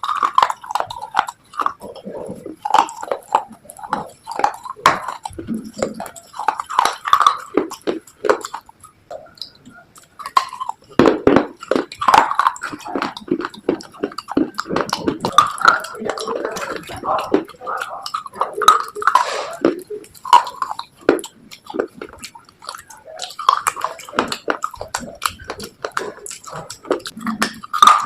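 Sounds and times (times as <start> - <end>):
crunching and chewing slate: 0.0 - 28.0.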